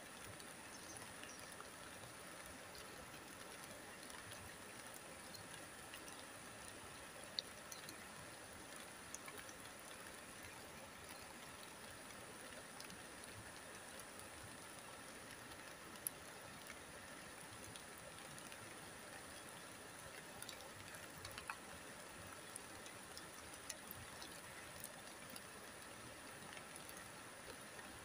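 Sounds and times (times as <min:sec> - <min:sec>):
light rain hissing: 0:00.0 - 0:28.0
raindrops ticking: 0:00.0 - 0:28.0.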